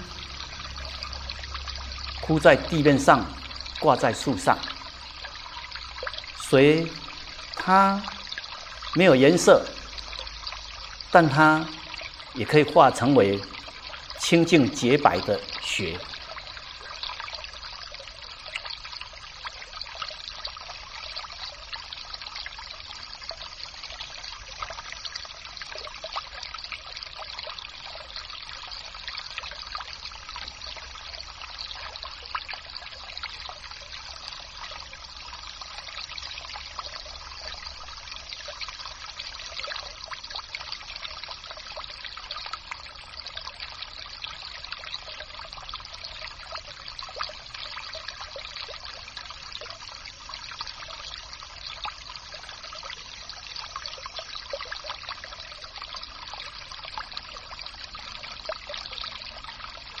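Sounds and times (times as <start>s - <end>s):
water trickling: 0.0s - 60.0s.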